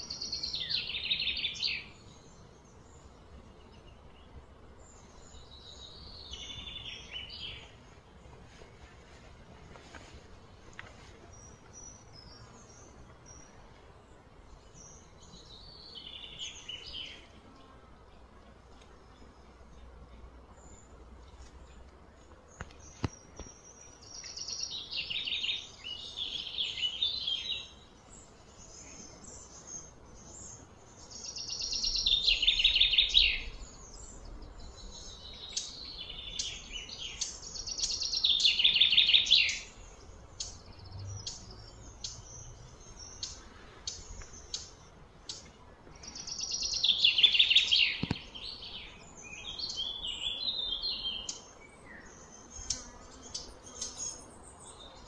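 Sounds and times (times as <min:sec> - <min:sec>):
faint background noise: 0:00.0 - 0:55.0.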